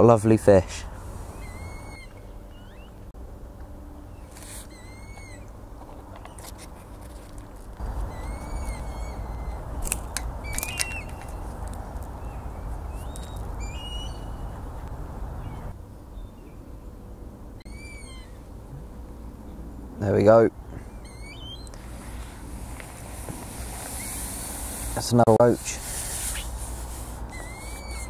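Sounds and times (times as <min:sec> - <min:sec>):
birds chirping: 0:00.0 - 0:06.6, 0:07.4 - 0:28.0
outdoor hiss and rumble: 0:00.0 - 0:28.0.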